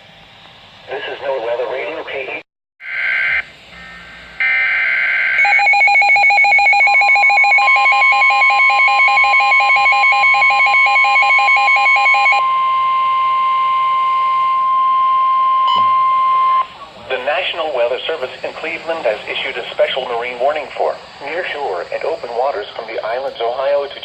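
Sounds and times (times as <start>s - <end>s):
steady warning tone: 0.8s - 24.0s
warbling electronic alarm: 2.8s - 23.1s.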